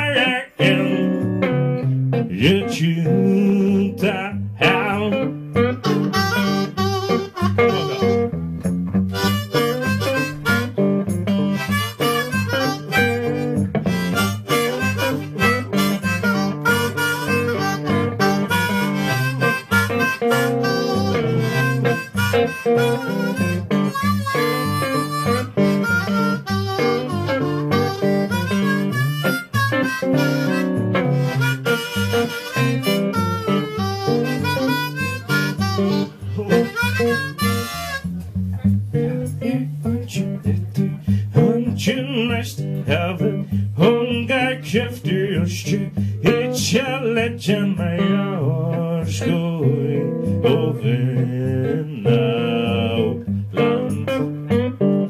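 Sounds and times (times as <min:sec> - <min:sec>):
blues harmonica solo: 0:00.0 - 0:55.0
guitar accompaniment: 0:00.0 - 0:55.0.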